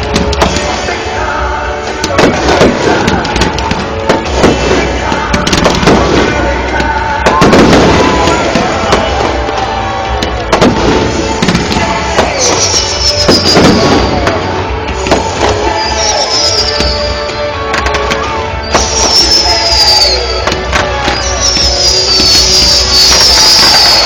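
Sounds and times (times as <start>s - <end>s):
fireworks booming and crackling: 0.0s - 24.0s.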